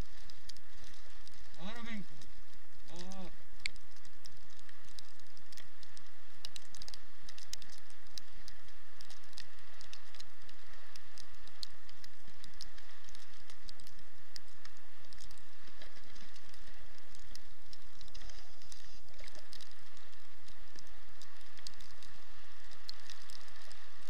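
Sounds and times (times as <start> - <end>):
dog paws pattering on snow: 0.0 - 24.0.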